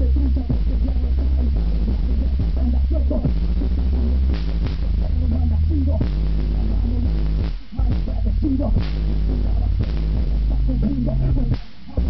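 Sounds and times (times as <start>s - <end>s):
deep subwoofer bass: 0.0s - 12.0s
rap song over loud speakers: 0.0s - 12.0s.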